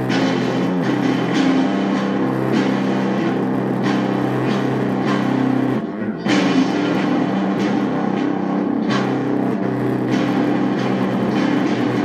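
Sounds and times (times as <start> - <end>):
drums: 0.0 - 12.0
electric guitar strumming chords: 0.0 - 12.0.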